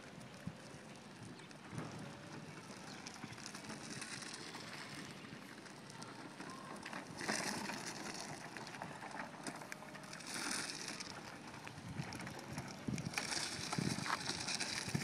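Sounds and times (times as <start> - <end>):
cart wheels crunching on ground: 0.0 - 15.0.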